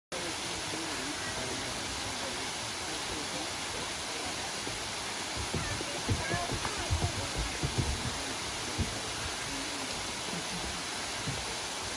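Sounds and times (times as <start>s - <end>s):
faint voices of people: 0.1s - 11.9s
waterfall rushing: 0.1s - 11.9s.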